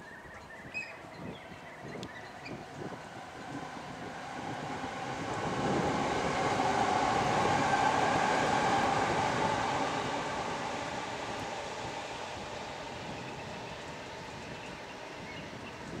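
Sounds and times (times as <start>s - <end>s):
train passing with whine: 0.7s - 16.0s.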